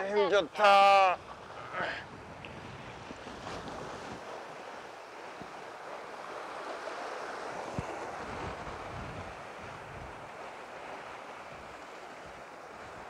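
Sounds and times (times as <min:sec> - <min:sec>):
waves washing against rocks: 0:00.0 - 0:13.0
wind rumbling on microphone: 0:00.0 - 0:13.0.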